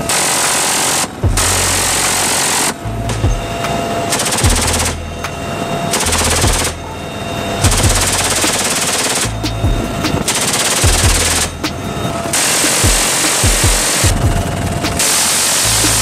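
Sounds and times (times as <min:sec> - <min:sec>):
rotary machine gun firing: 0:00.0 - 0:06.8, 0:07.6 - 0:15.6.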